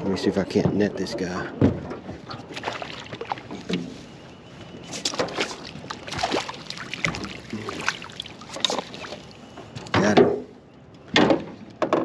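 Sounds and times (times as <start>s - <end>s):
knocks and clatter on aluminum boat: 0.1s - 4.0s, 4.9s - 6.4s, 7.0s - 12.0s.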